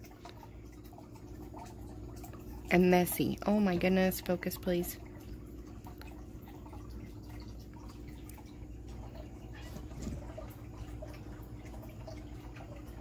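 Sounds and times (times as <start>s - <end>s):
steady low hum: 0.0s - 13.0s
water trickling and dripping: 0.0s - 13.0s.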